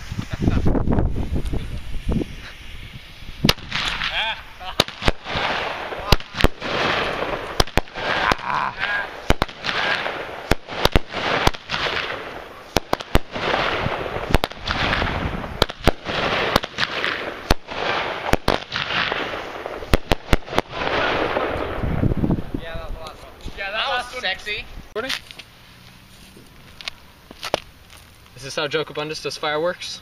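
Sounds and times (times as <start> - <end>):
firework bangs: 0.0 - 25.5
firework hiss: 0.0 - 30.0.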